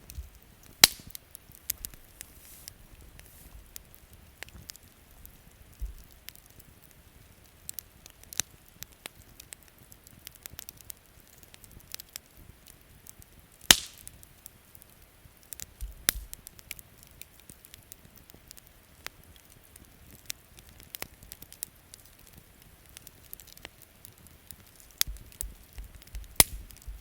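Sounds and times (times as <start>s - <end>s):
campfire crackling and popping: 0.0s - 27.0s
faint rain: 0.0s - 27.0s.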